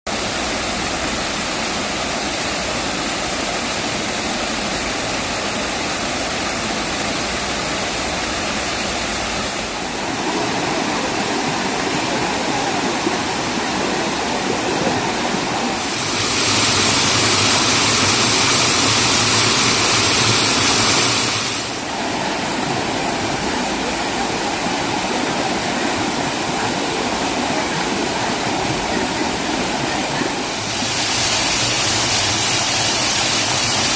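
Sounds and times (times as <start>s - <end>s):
stream rushing over rocks: 0.1s - 33.9s.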